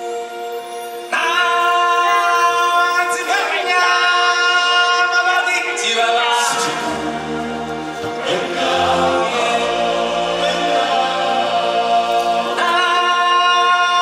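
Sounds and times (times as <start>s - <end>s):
stage music: 0.0s - 14.0s
singers on long sliding notes: 1.1s - 14.0s.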